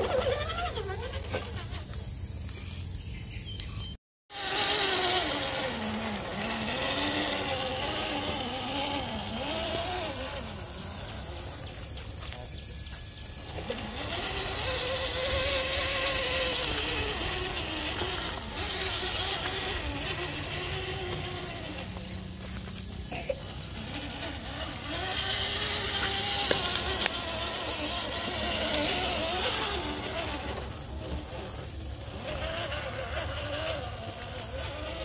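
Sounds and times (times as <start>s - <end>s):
electric motor whining: 0.0s - 35.0s.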